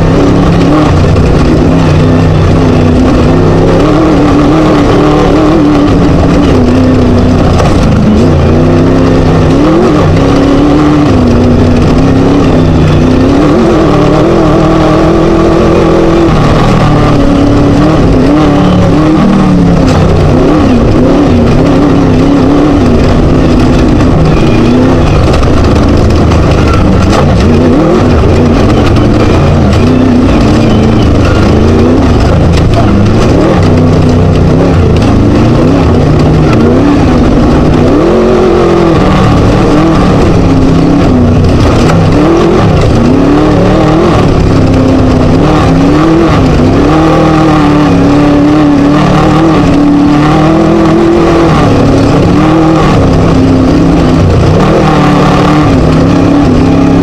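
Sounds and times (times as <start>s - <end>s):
buggy engine revving: 0.0s - 57.0s
constant rough noise: 0.0s - 57.0s.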